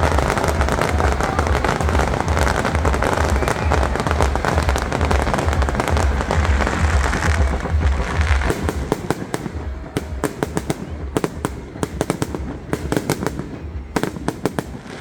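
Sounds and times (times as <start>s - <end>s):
fireworks bangs: 0.0s - 15.0s
fireworks crackling pops: 0.0s - 15.0s.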